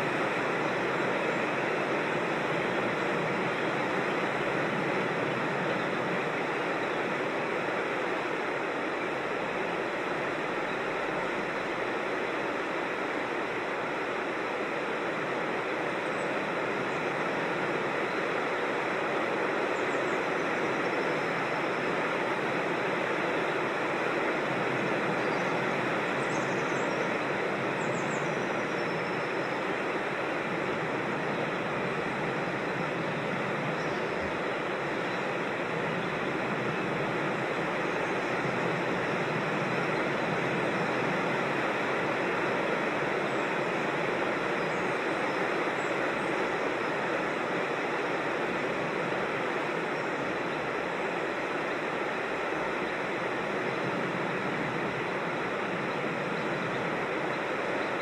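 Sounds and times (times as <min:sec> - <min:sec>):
creek water rushing over rocks: 0:00.0 - 0:58.0.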